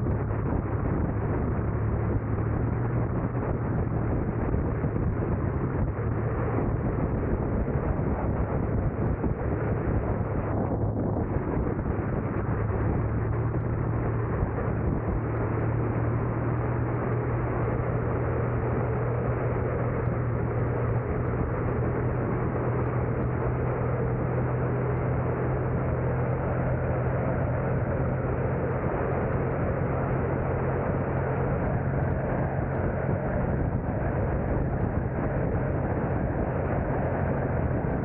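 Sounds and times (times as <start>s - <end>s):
low engine hum: 0.0s - 38.0s
road and tyre noise: 0.0s - 38.0s.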